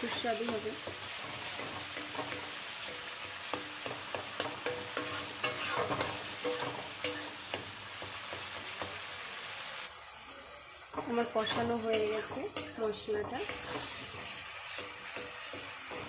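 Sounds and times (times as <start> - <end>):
spatula scraping and knocking pan: 0.0 - 9.1, 11.0 - 16.0
paste sizzling in oil: 0.0 - 16.0.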